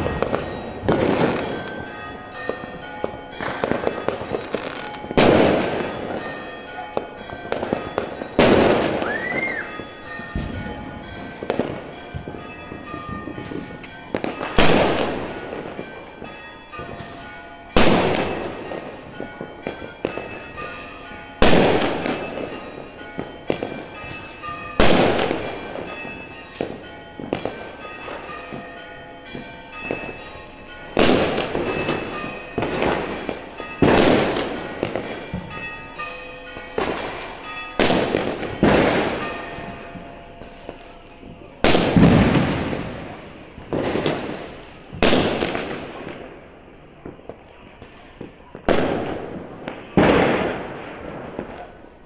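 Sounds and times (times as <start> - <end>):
fireworks pops and crackling: 0.0 - 6.2, 7.0 - 20.3, 21.4 - 28.6, 32.6 - 35.5, 37.8 - 39.3, 40.5 - 46.4, 47.0 - 51.8
fireworks booming: 0.0 - 20.7, 21.4 - 28.6, 31.0 - 35.6, 36.6 - 51.9.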